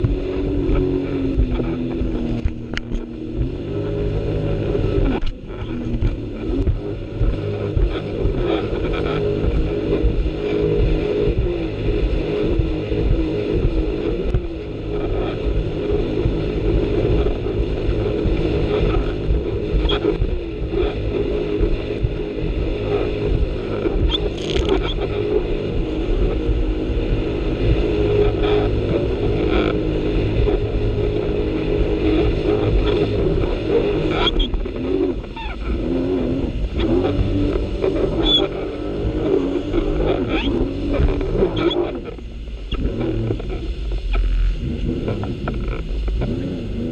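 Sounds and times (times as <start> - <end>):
jet ski engine running: 0.0 - 46.9
wind buffeting microphone: 0.0 - 46.9.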